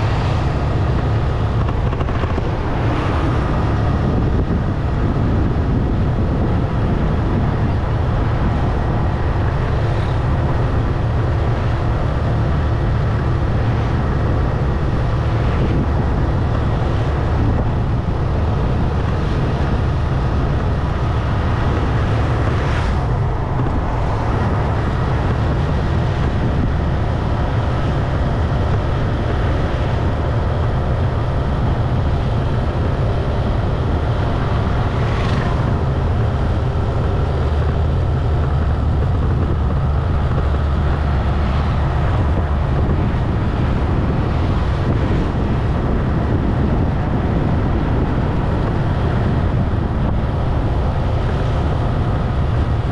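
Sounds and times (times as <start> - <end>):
motorcycle engine and tyres rumbling: 0.0 - 52.9
wind buffeting microphone: 0.0 - 52.9.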